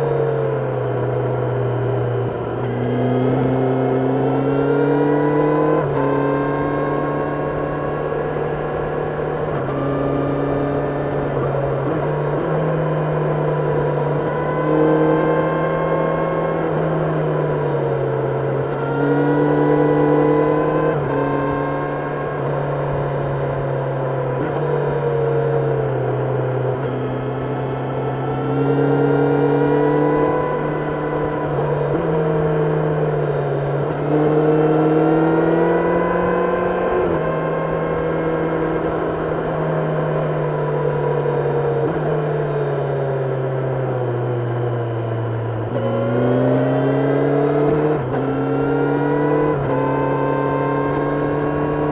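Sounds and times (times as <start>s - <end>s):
motorcycle engine revving and shifting: 0.0s - 51.9s.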